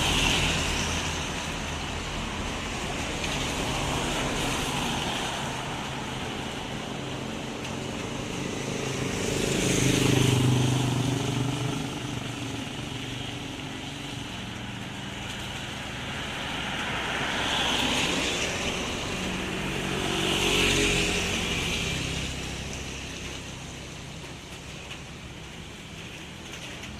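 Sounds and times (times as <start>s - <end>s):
rain hissing: 0.0s - 26.9s
vehicles passing on wet road: 0.0s - 26.9s.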